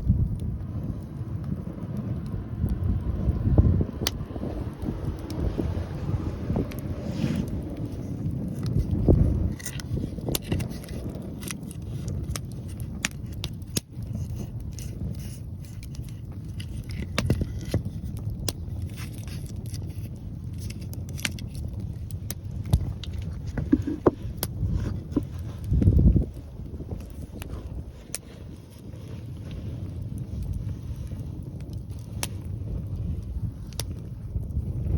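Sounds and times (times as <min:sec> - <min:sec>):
wind buffeting microphone: 0:00.0 - 0:34.9
wood fire crackling and popping: 0:00.0 - 0:34.9.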